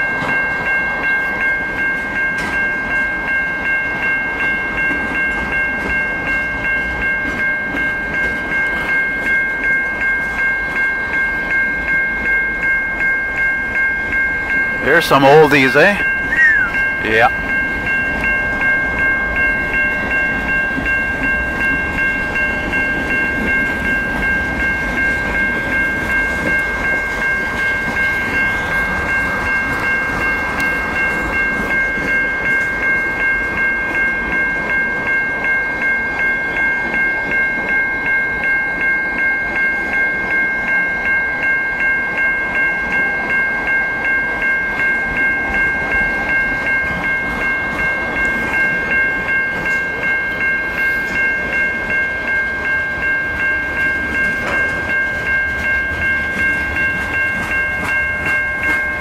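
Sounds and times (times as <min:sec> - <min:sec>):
freight train rumble and wheel clatter: 0:00.0 - 0:59.0
level crossing bell ringing: 0:00.0 - 0:59.0.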